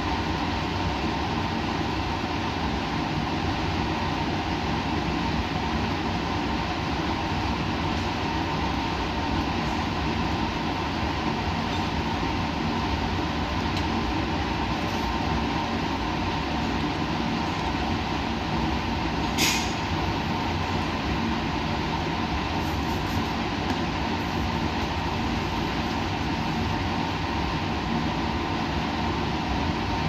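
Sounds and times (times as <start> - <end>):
steady hum tones: 0.0 - 30.0.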